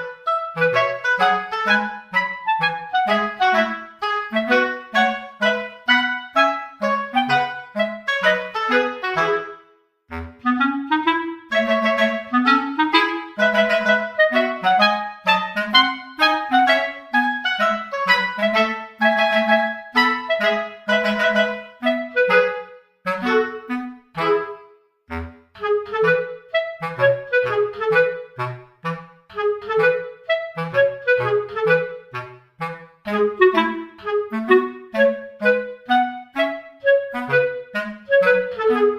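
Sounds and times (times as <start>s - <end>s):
light bouncy background music: 0.0s - 38.9s
lively woodwind melody: 0.0s - 38.9s.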